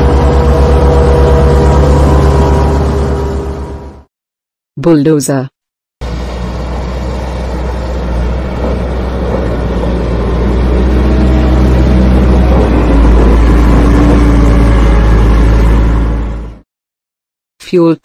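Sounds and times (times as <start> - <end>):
diesel engine rumbling: 0.0 - 4.1, 6.0 - 16.6.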